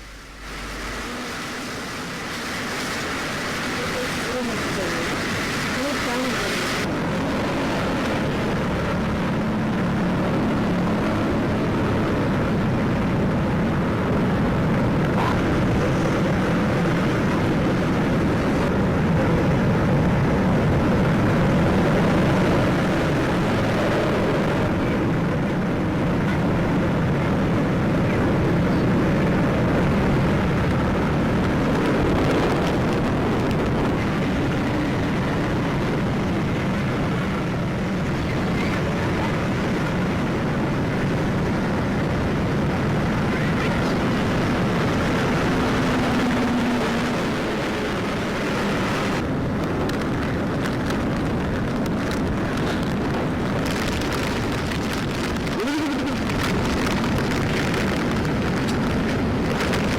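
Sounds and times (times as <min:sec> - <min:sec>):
rough sea surf: 0:00.0 - 0:59.9
strong wind: 0:00.0 - 0:59.9.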